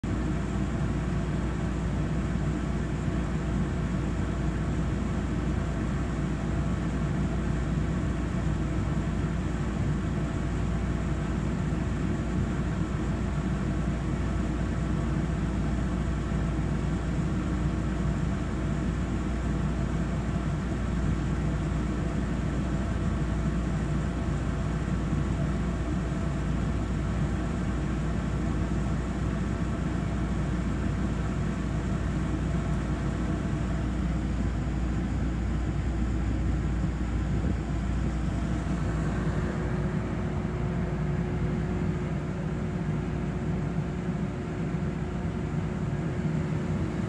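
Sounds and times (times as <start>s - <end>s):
train interior hum: 0.0s - 47.0s.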